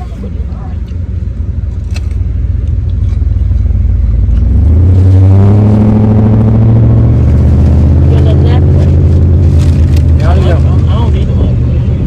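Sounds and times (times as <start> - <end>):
car engine revving: 1.1 - 12.0.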